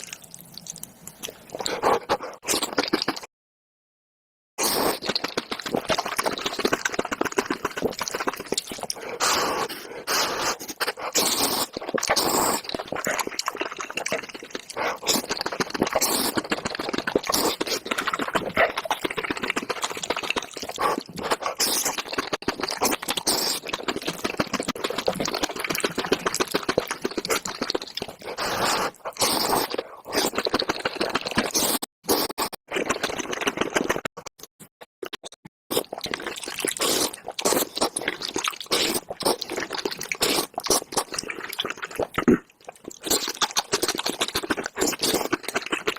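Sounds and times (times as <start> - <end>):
wet chewing and mouth smacks: 0.0 - 3.3, 4.7 - 34.4, 35.0 - 45.9.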